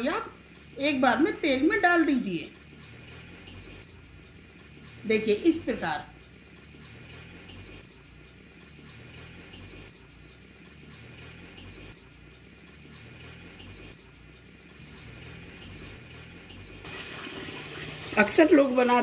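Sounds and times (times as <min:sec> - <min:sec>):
frying in hot oil: 0:00.0 - 0:19.0.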